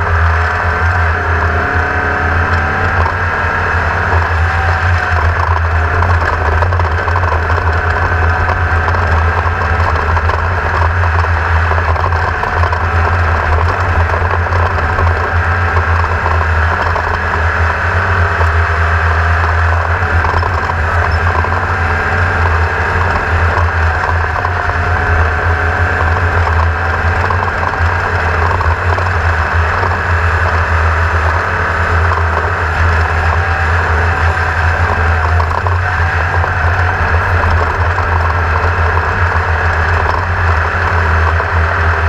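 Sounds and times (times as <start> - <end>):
boat motor droning: 0.0 - 42.0.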